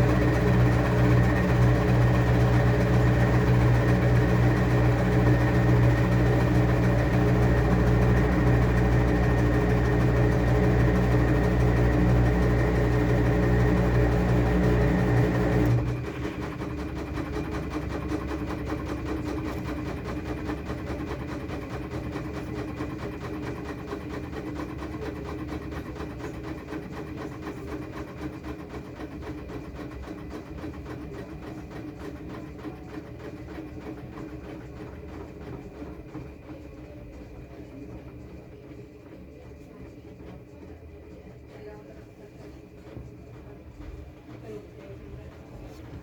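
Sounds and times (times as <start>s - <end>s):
washing machine motor: 0.0s - 46.0s.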